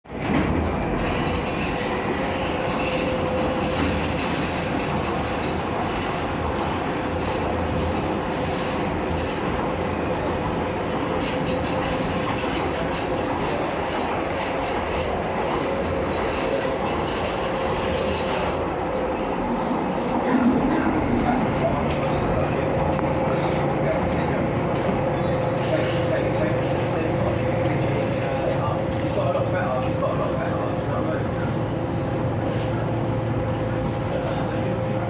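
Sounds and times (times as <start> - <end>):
train wheels rumbling on rails: 0.1 - 35.0.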